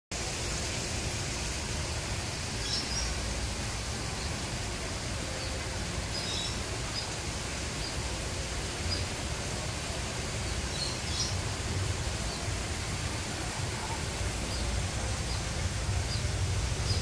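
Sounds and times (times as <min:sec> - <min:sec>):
outdoor ambient hiss: 0:00.1 - 0:17.0.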